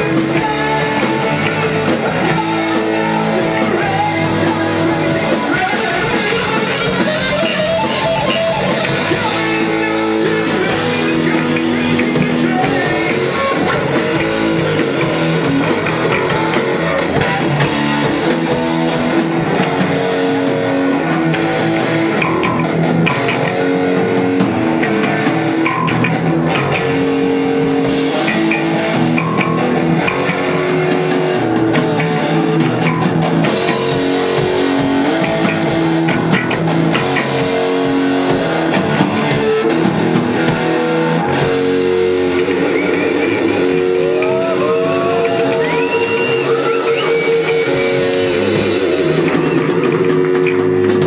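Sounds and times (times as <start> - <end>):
drum kit: 0.0 - 51.0
rock guitar: 0.0 - 51.0.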